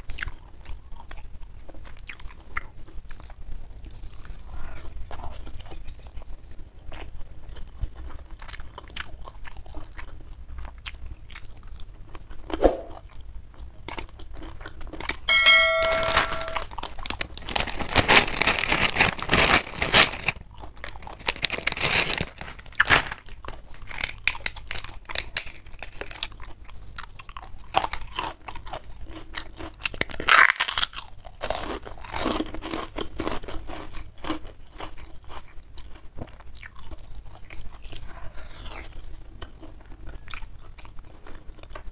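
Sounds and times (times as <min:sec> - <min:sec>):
chewing and crunching food: 0:00.0 - 0:15.3, 0:16.6 - 0:41.9.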